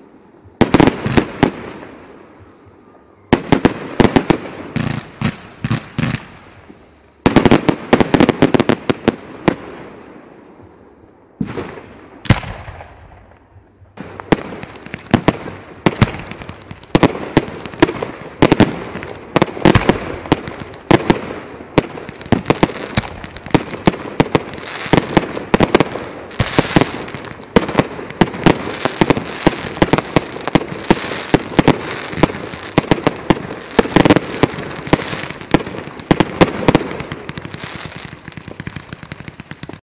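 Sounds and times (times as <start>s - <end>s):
fireworks bangs and crackles: 0.0s - 39.8s.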